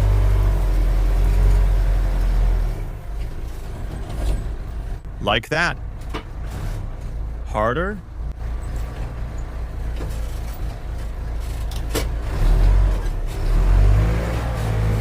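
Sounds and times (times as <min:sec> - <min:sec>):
heavy machine engine humming: 0:00.0 - 0:15.0.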